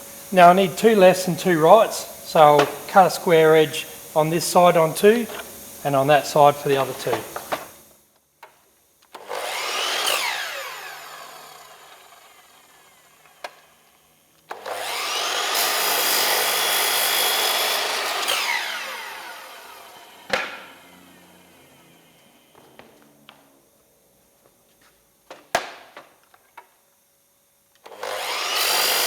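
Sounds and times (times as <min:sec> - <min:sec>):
electric saw cutting: 0:00.0 - 0:07.9, 0:09.1 - 0:23.7, 0:27.8 - 0:29.0.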